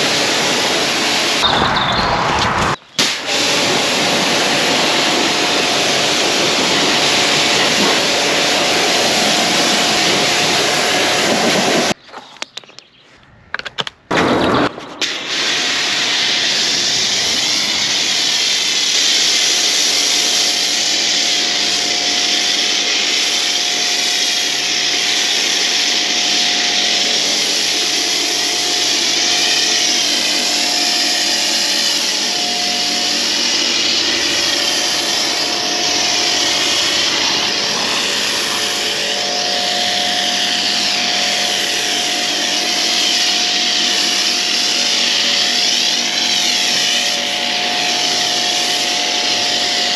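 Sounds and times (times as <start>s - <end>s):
water jet spraying on car: 0.0s - 1.9s, 2.5s - 12.0s, 15.0s - 49.9s
pressure washer motor whine: 0.0s - 12.0s, 14.8s - 49.9s.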